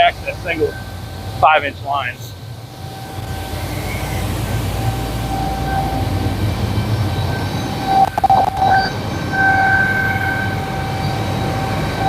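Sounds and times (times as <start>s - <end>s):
diesel engine rumbling: 0.0s - 12.0s
fire pump whine: 0.0s - 12.0s.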